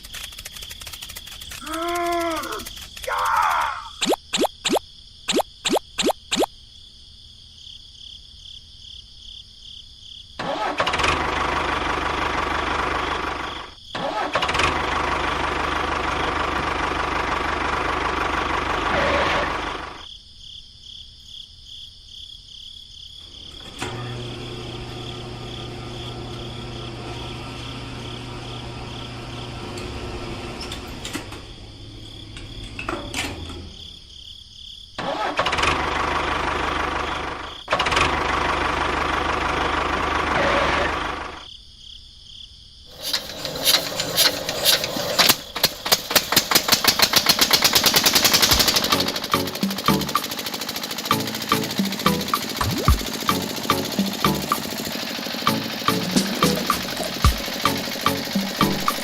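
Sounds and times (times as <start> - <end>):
small engine running: 0.0 - 6.5, 10.4 - 20.0, 23.2 - 33.8, 35.0 - 41.5, 42.9 - 59.0.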